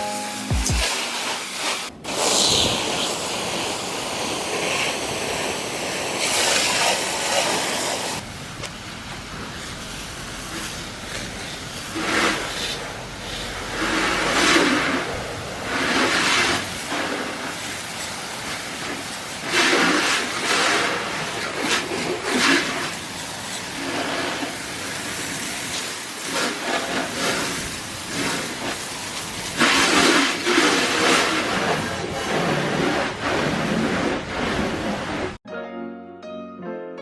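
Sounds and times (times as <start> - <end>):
water spraying onto car: 0.7 - 35.4.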